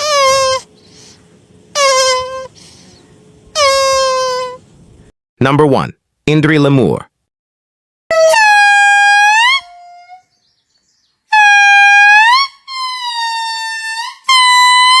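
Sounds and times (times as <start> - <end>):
lemur wailing song: 0.0 - 5.1, 8.1 - 15.0.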